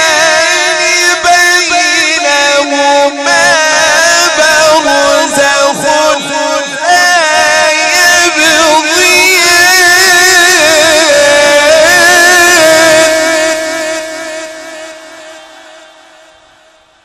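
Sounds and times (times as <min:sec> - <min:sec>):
man reciting melodically: 0:00.0 - 0:15.4.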